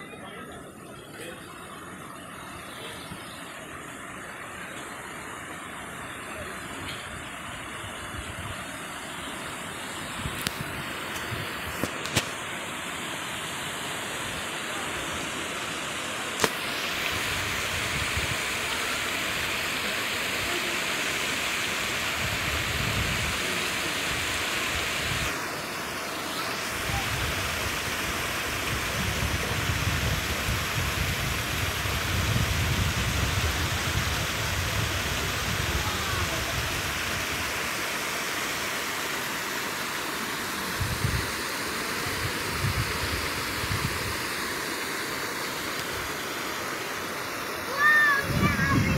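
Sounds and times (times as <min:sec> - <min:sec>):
waterfall splashing into pool: 0:02.8 - 0:48.9.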